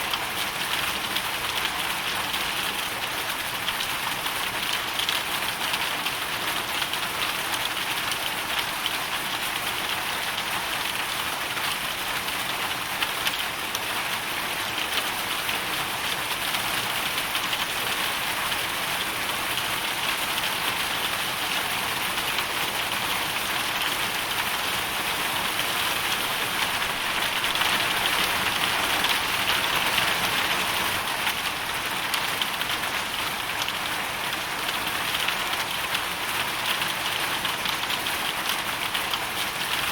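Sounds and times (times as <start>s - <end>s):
hailstones and rain falling: 0.0s - 39.9s.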